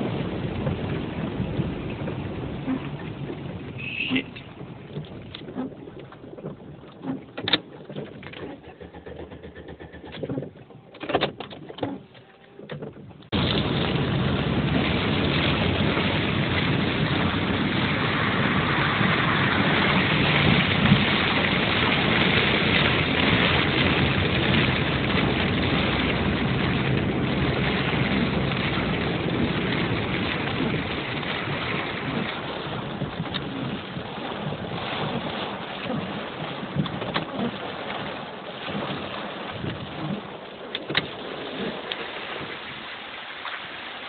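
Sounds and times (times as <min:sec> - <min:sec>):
heavy rain and floodwater rushing: 0:00.0 - 0:44.0.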